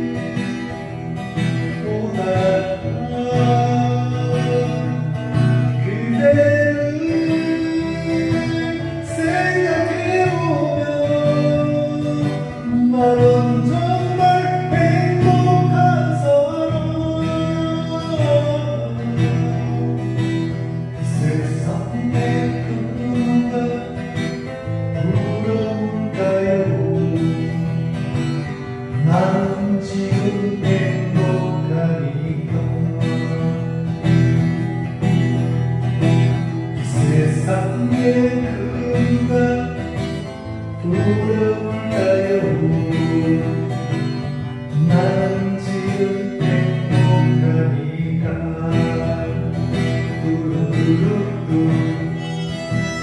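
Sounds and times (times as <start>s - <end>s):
acoustic guitar strumming: 0.0s - 53.0s
man singing: 0.0s - 53.0s.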